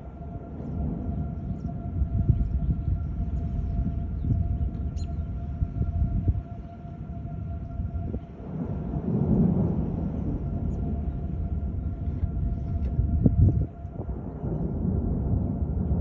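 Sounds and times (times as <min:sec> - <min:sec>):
warning siren steady tone: 0:00.0 - 0:16.0
wind buffeting on microphone: 0:00.0 - 0:16.0.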